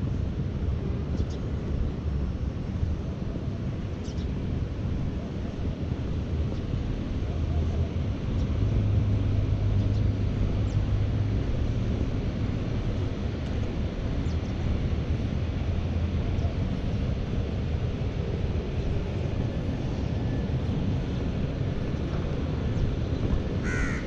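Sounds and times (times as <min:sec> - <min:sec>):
low motor hum: 0:00.0 - 0:23.9.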